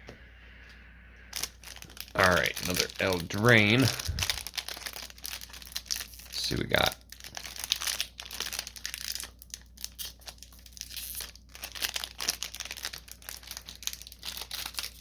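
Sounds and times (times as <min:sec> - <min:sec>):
plastic wrapper crinkling: 0:01.3 - 0:15.0
wrapper being torn open: 0:01.3 - 0:15.0.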